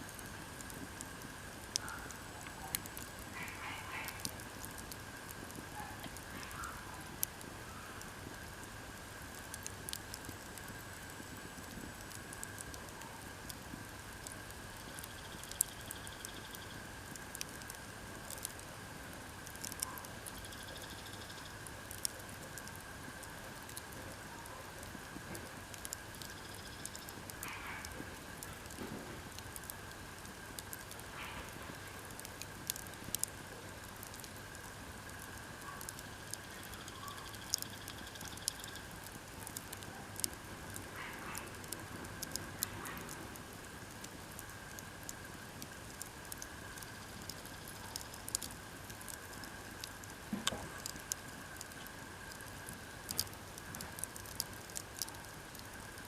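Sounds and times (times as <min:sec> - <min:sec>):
campfire crackling: 0:00.0 - 0:56.0
fire pops and snaps: 0:00.0 - 0:56.0
soft hiss: 0:00.0 - 0:56.0.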